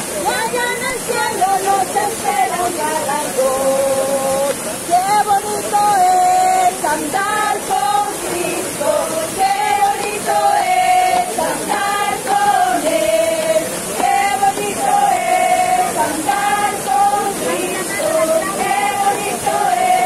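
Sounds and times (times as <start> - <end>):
waterfall rushing: 0.0 - 20.0
group singing a hymn: 0.2 - 20.0.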